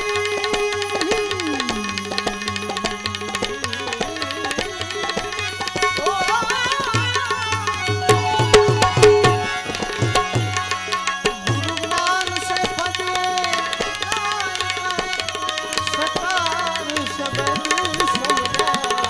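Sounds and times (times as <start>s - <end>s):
harmonium melody: 0.0s - 19.0s
tabla playing: 0.0s - 19.0s.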